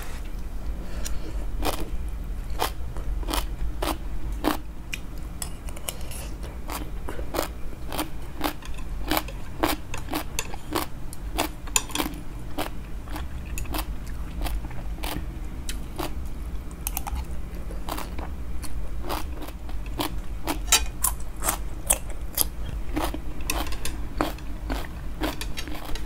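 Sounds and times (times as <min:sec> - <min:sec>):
low steady hum: 0:00.0 - 0:26.0
person chewing and crunching food: 0:00.0 - 0:26.0.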